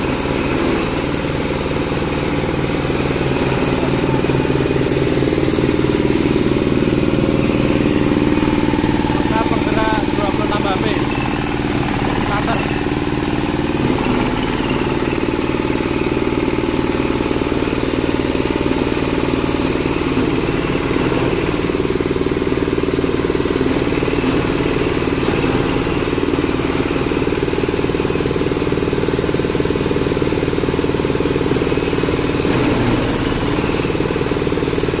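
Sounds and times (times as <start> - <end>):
grinding machine running: 0.0 - 35.0.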